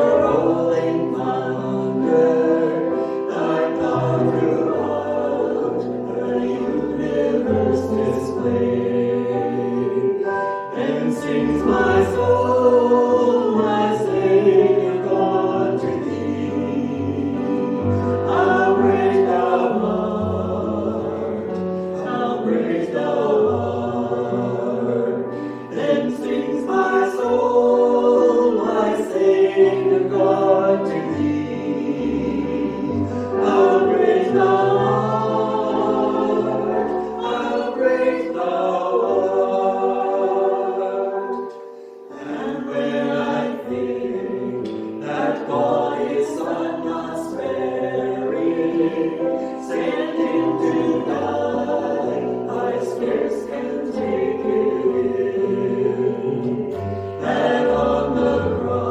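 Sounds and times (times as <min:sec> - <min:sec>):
group singing worship song: 0:00.0 - 0:58.9.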